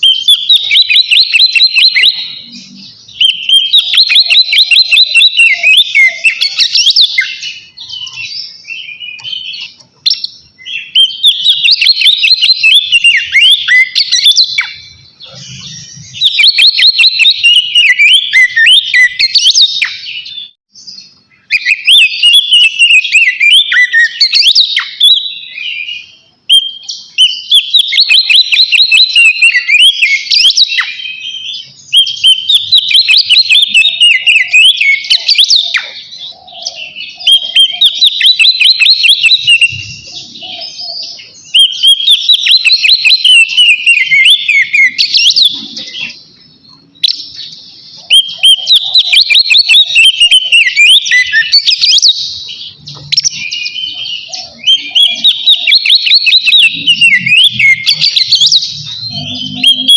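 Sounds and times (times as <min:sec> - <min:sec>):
magpie-robin singing: 0:00.0 - 0:59.9.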